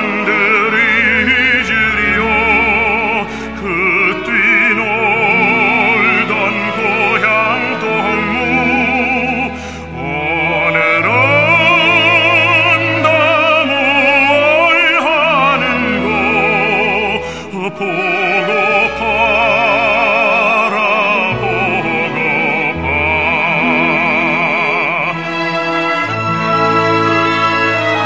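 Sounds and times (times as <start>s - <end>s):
operatic singing with vibrato: 0.0s - 28.0s
orchestral accompaniment: 0.0s - 28.0s.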